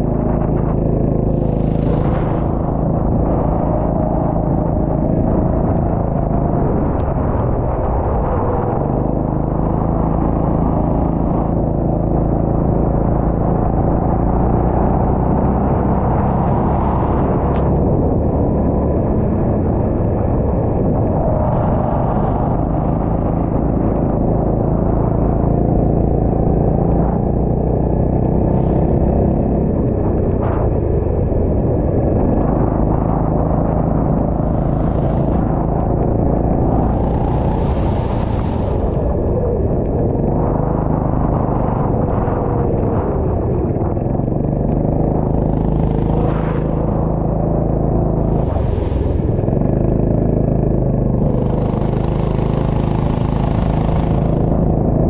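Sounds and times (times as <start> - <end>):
go-kart engine running: 0.0 - 20.9, 21.7 - 55.0.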